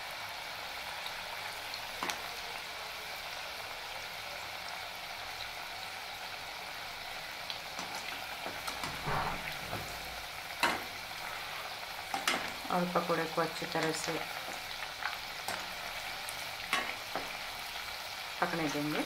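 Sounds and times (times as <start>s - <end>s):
oil sizzling hiss: 0.0s - 19.0s.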